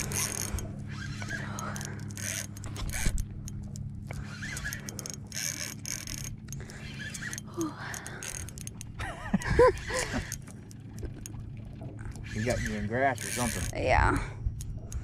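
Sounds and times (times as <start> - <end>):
fishing reel clicking and whirring: 0.0 - 11.4, 12.0 - 15.0.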